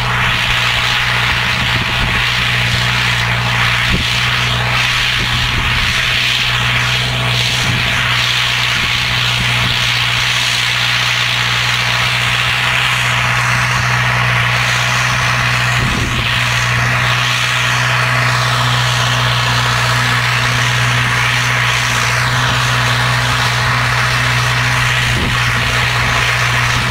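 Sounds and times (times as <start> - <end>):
tractor diesel engine under load: 0.0 - 26.9.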